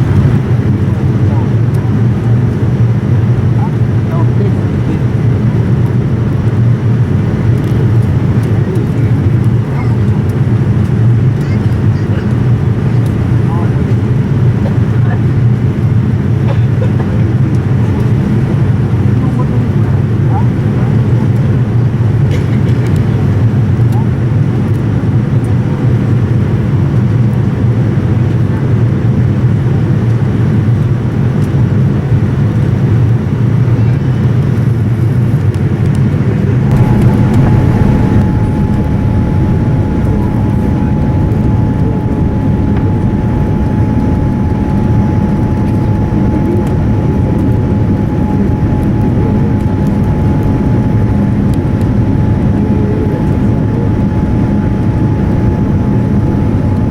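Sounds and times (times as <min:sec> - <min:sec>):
airliner cabin engine rumble: 0:00.0 - 0:56.9
faint steady whine: 0:00.0 - 0:56.9.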